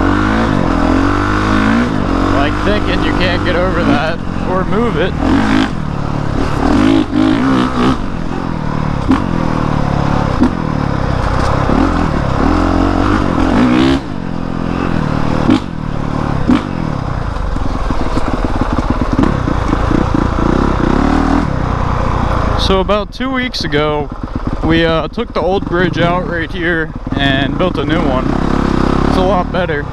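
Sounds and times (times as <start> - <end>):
dirt bike engine running: 0.0 - 29.9.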